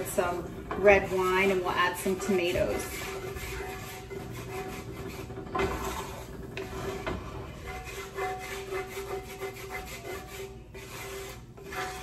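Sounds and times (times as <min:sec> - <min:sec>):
steady low hum: 0:00.0 - 0:12.0
wooden spoon scraping a skillet: 0:00.0 - 0:12.0.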